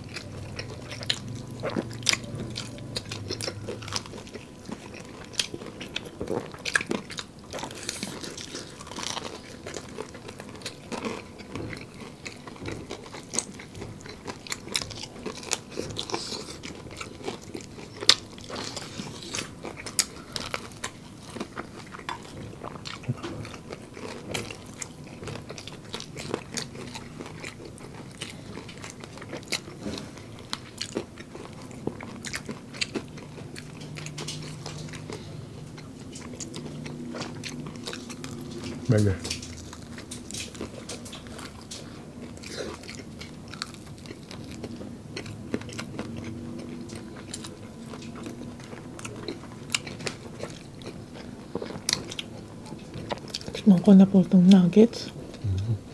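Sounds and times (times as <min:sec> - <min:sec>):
crunchy chewing of fried chicken: 0:00.0 - 0:55.9.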